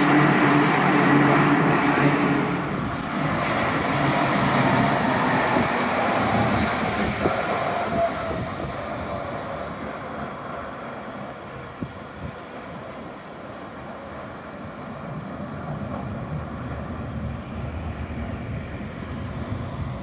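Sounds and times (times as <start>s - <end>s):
tram wheels knocking: 0.0s - 12.7s, 14.2s - 20.0s
tram running on track: 0.0s - 20.0s.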